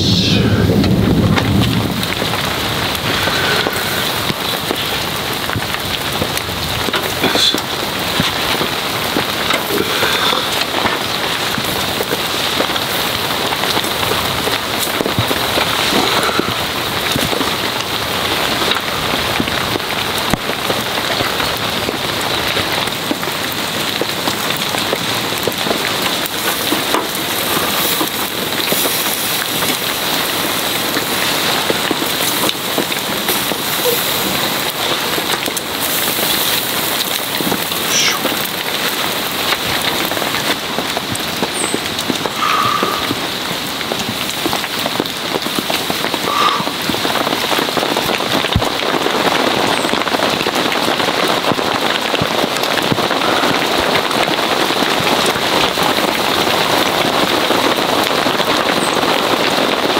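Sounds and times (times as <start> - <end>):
heavy rain on tent tarp: 0.0 - 59.9.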